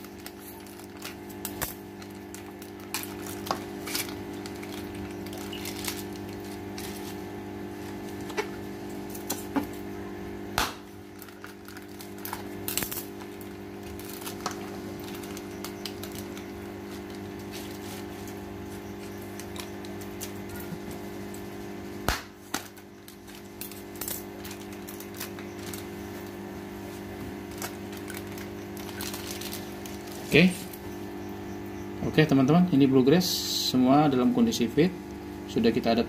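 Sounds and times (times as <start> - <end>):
plastic bag handling: 0.0 - 9.9, 10.9 - 30.9
steady low hum: 0.0 - 36.0.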